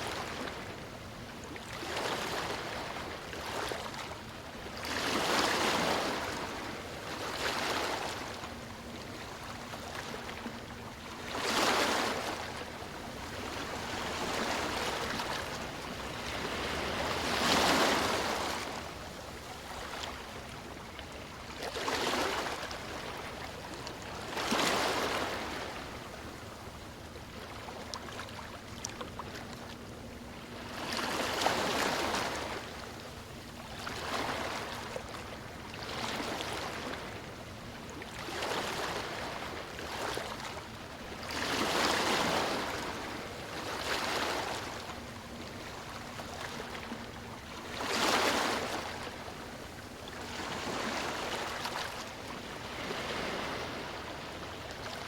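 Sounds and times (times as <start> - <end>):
sea waves breaking: 4.8 - 20.9, 21.5 - 26.4, 27.4 - 55.0.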